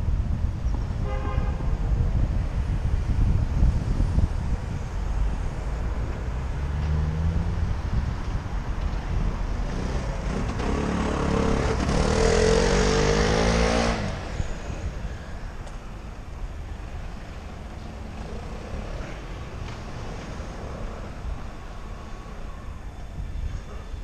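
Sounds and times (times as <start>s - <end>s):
road traffic: 0.0s - 24.0s
wind rumble on microphone: 0.0s - 24.0s
motor vehicle engine: 3.7s - 24.0s.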